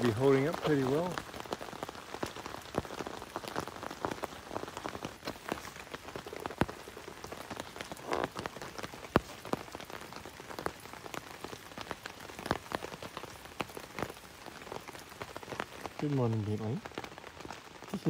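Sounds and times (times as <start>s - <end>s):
rain pattering on tarp: 0.0s - 18.0s
water dripping: 0.0s - 18.0s.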